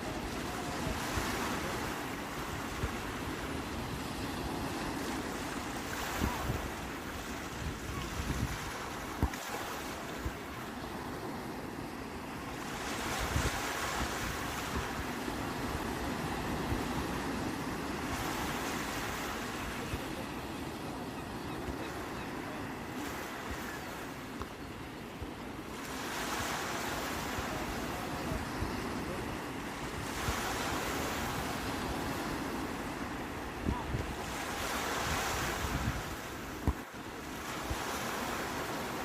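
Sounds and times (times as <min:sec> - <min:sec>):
sea waves breaking on shore: 0:00.0 - 0:39.0.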